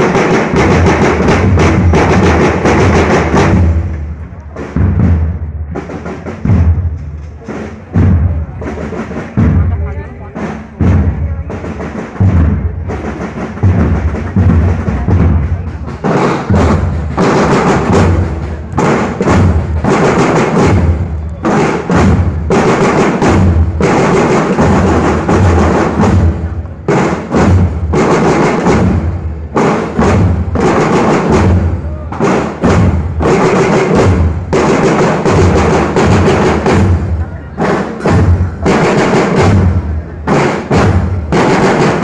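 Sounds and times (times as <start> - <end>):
snare drum patterns: 0.0 - 42.0.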